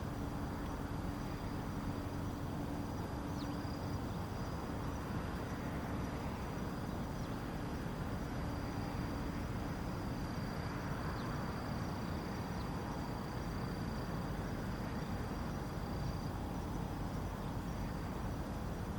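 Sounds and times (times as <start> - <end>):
low outdoor rumble and hiss: 0.0 - 18.9.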